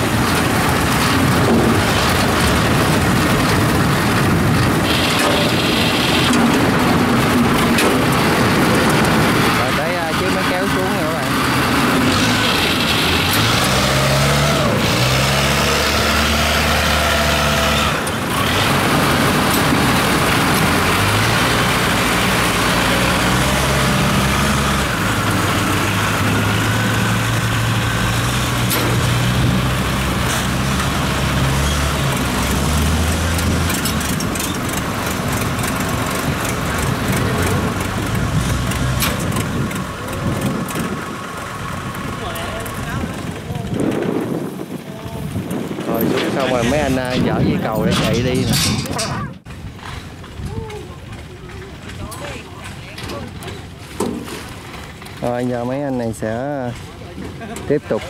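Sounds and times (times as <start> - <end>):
tracked carrier engine running: 0.0 - 58.0.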